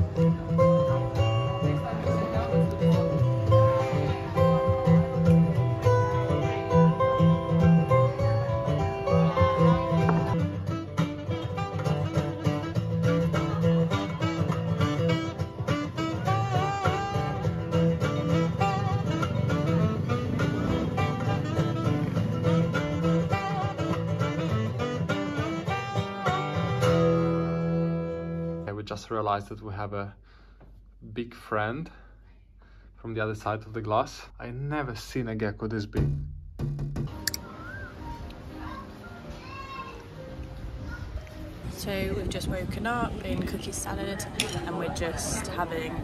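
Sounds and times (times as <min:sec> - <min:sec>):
plucked acoustic guitar music: 0:00.0 - 0:28.7, 0:36.6 - 0:46.0.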